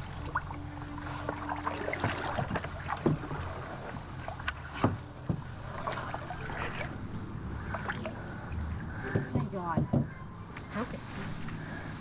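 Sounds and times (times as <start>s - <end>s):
paddles splashing in water: 0.0s - 10.0s.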